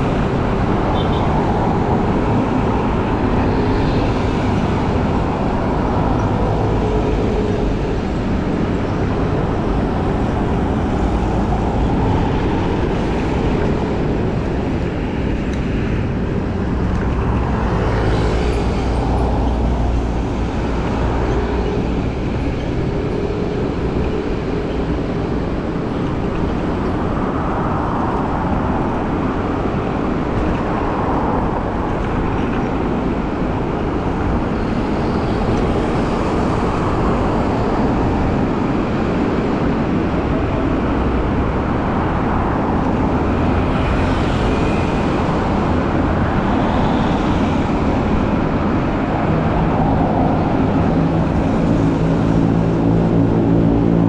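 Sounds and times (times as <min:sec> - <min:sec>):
city road traffic: 0:00.0 - 0:54.0
wind rumble on microphone: 0:00.0 - 0:54.0.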